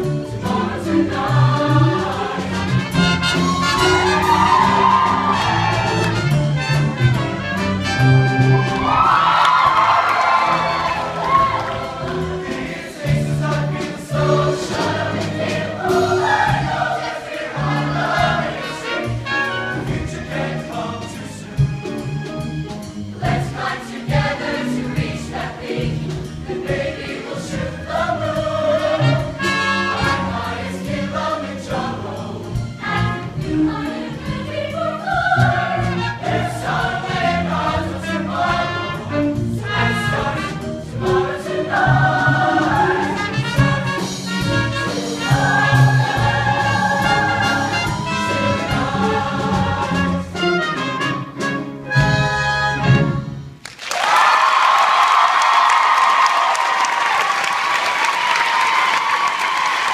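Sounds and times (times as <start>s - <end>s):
mixed choir singing: 0.0s - 7.0s, 8.4s - 21.8s, 23.1s - 51.3s
live band playing: 0.0s - 27.1s, 27.8s - 31.3s, 32.3s - 53.6s
regular drum beat: 0.0s - 53.2s.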